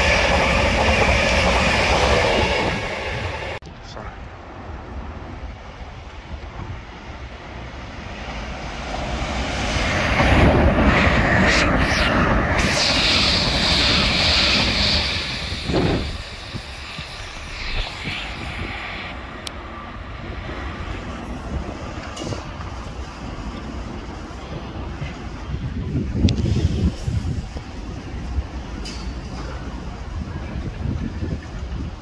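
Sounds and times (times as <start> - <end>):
electric train rushing with whine: 0.0 - 3.6, 4.5 - 32.0.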